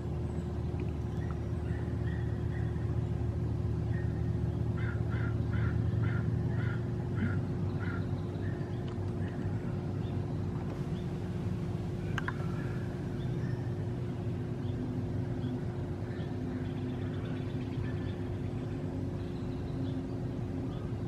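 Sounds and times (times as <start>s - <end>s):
distant engine hum: 0.0s - 21.0s.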